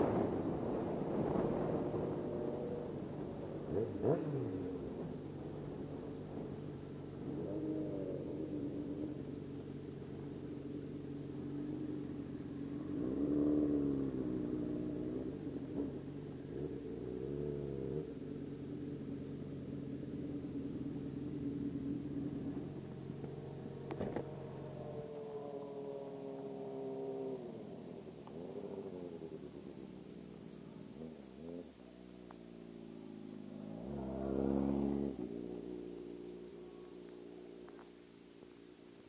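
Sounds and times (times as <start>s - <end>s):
motorcycle engine revving: 0.0s - 38.1s.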